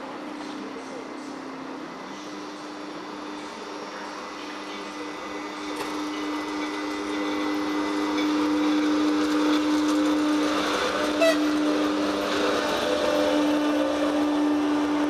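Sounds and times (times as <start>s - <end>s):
electric locomotive whine: 0.0s - 15.0s.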